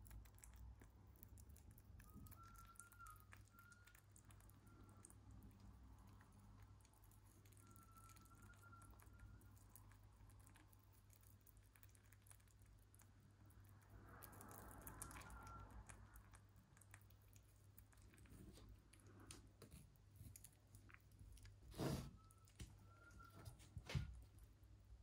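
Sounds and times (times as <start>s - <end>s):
rabbit chewing and licking: 0.0s - 25.0s.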